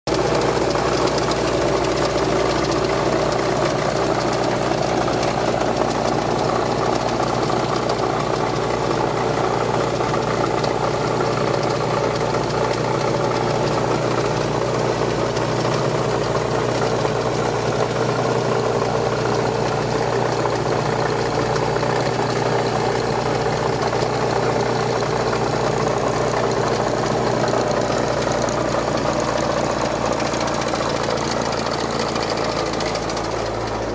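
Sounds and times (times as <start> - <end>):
car engine idling: 0.1 - 33.9
engine rattle: 0.1 - 33.9.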